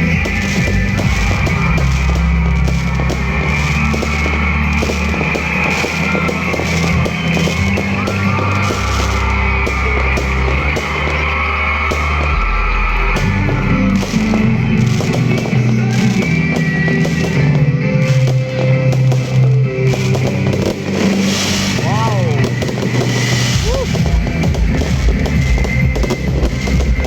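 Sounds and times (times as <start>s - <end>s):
music with steady beat and bass: 0.0s - 27.0s.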